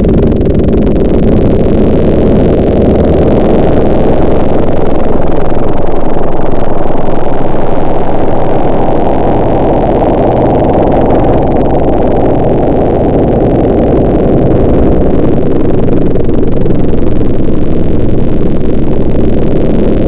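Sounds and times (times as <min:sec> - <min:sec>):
tree-cutting machinery motor: 0:00.0 - 0:20.0.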